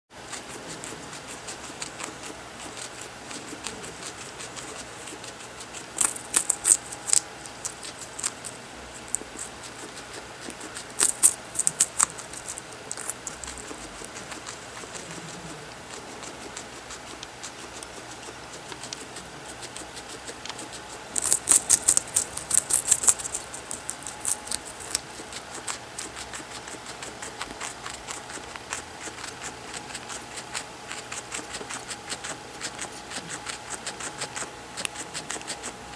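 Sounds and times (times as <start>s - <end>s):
guinea pig crunching carrot: 0.2s - 35.9s.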